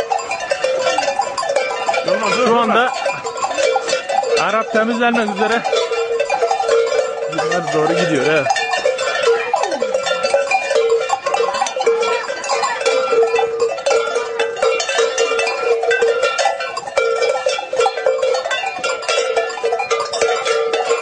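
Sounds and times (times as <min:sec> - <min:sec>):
metal bells clanking: 0:00.0 - 0:21.0
steady ringing tone: 0:00.0 - 0:21.0.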